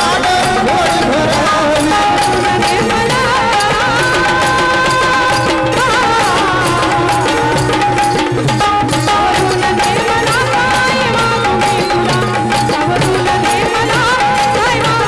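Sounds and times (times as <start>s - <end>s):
hand-drum percussion: 0.0s - 15.0s
woman singing into microphone: 0.0s - 15.0s.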